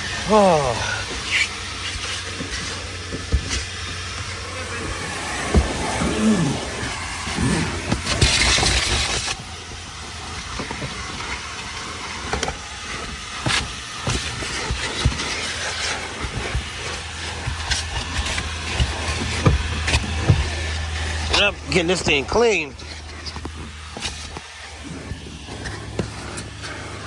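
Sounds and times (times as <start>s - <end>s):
vacuum hose hissing: 0.0s - 27.0s.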